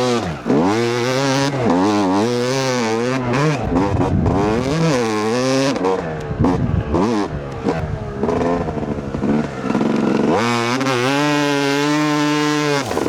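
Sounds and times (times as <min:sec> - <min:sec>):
two-stroke dirt bike engine revving: 0:00.0 - 0:13.0.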